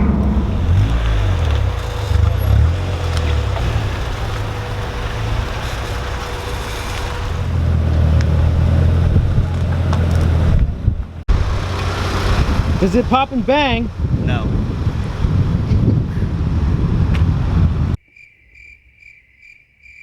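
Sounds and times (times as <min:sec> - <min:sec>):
car engine and exhaust cruising: 0:00.0 - 0:18.0.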